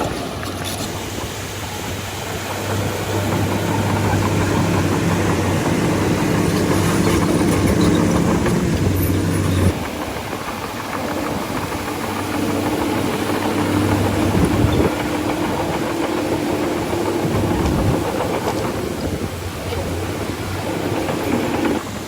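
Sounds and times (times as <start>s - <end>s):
bulldozer diesel engine humming: 0.0s - 22.0s.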